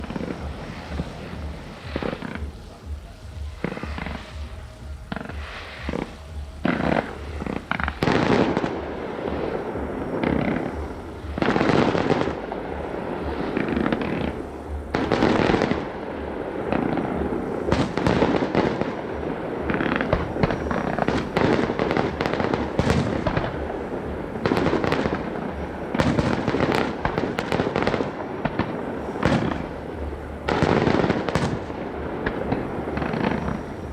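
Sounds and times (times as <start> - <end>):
fireworks bangs and pops: 0.0 - 33.9.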